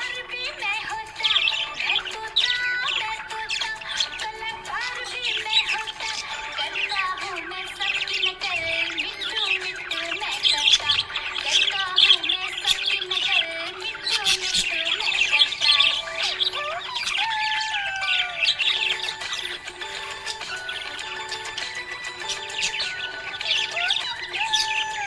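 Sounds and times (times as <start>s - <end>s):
background music: 0.0s - 25.0s
budgerigar chirping and warbling: 0.0s - 25.0s.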